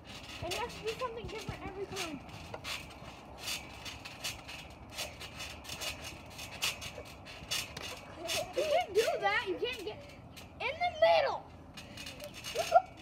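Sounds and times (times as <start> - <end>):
trampoline springs bouncing: 0.0 - 13.0.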